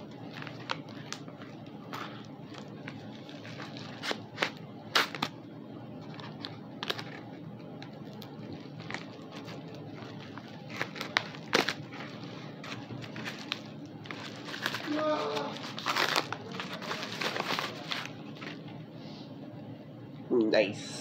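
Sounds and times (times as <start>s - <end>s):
packaging clicks and crinkling: 0.0s - 5.4s, 6.0s - 18.7s
packaging snapping: 0.0s - 5.4s, 6.0s - 18.6s.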